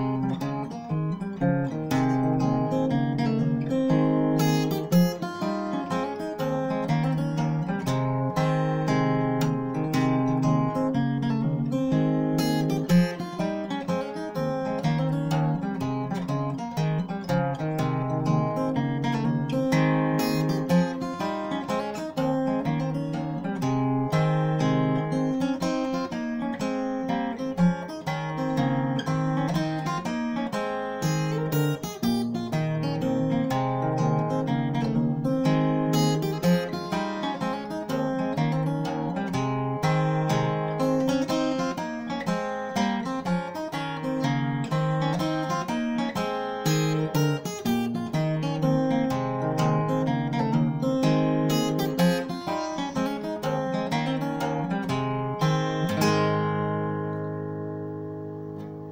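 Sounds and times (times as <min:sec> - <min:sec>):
fingerstyle acoustic guitar: 0:00.0 - 0:58.9.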